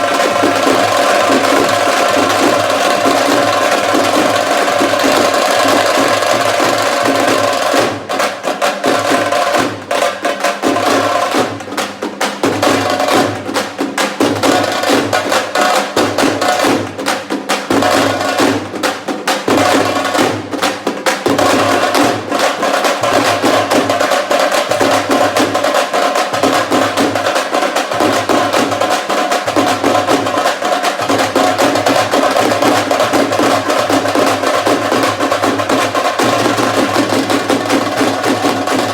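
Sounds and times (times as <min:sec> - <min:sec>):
rapid drum strokes: 0:00.0 - 0:38.9.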